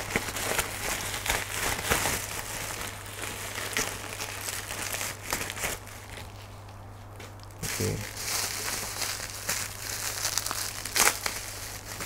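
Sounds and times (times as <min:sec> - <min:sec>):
low electrical hum: 0:00.0 - 0:12.0
packaging crinkling: 0:00.0 - 0:12.0.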